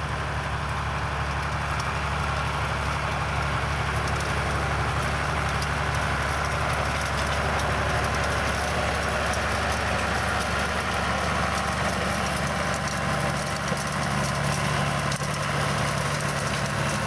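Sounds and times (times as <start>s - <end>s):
machine and field noise: 0.0s - 17.0s
tractor diesel engine running: 0.0s - 17.0s.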